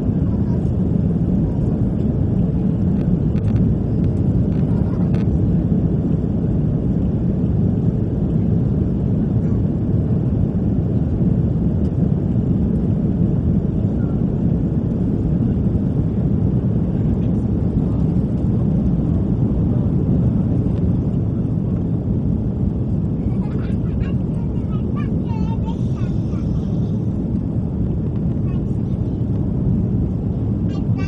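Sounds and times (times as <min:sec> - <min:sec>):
jet engine cabin roar: 0:00.0 - 0:31.0.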